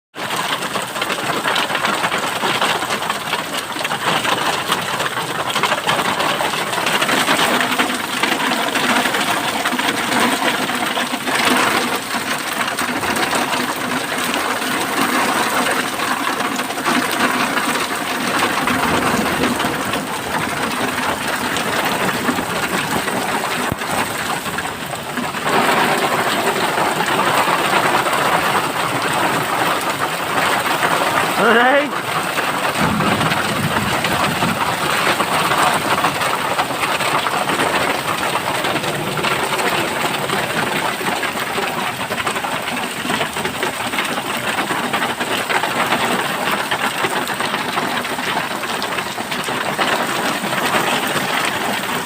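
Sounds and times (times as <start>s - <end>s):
heavy rain with hail clattering: 0.2s - 52.0s.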